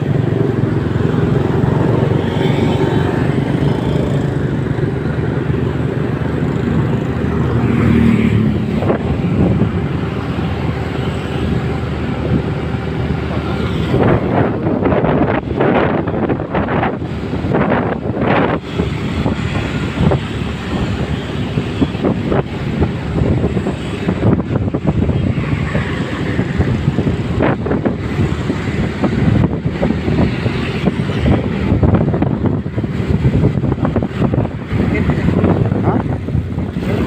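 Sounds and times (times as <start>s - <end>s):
vehicle running: 0.0s - 37.0s
wind buffeting on microphone: 0.0s - 37.0s.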